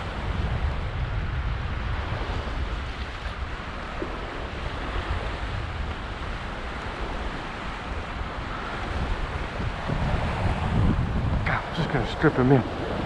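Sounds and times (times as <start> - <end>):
lake waves: 0.0 - 13.0
wind buffeting microphone: 0.0 - 13.0.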